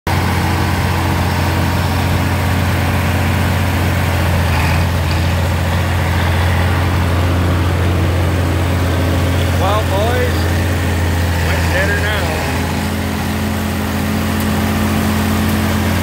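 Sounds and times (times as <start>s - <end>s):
tractor diesel engine humming: 0.1s - 16.0s.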